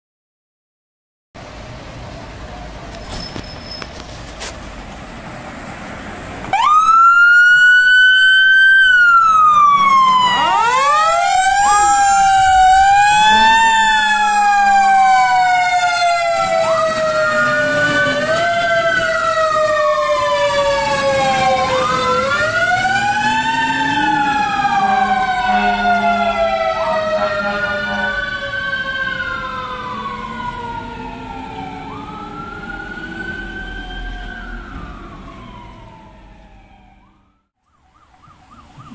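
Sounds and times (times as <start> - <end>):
fire truck sirens wailing: 5.9 - 38.9.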